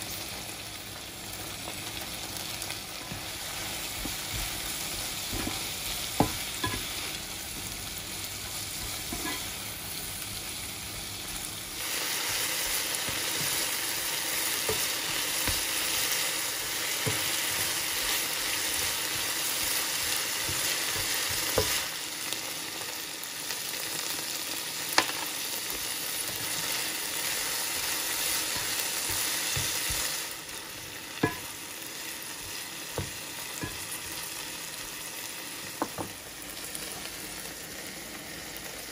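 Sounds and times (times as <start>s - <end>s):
beans sizzling in a frying pan: 0.0s - 38.9s.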